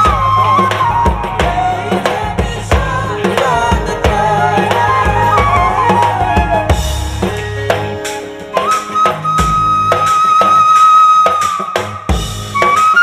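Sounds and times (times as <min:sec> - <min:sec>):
flute or violin melody: 0:00.0 - 0:03.2, 0:03.8 - 0:13.0
rhythmic percussion: 0:00.0 - 0:13.0.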